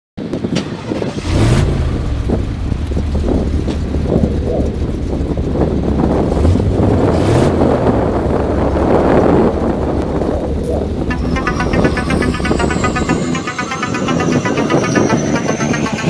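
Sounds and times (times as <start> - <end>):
crane diesel engine running: 1.2 - 16.0.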